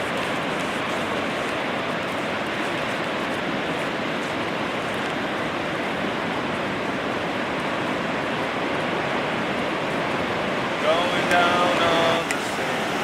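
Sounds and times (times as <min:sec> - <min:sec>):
ocean surf roaring: 0:00.0 - 0:13.0.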